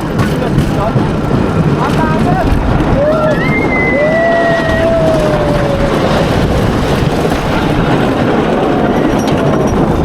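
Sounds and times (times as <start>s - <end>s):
roller coaster rumbling on track: 0.0s - 10.0s
rushing wind: 0.0s - 10.0s.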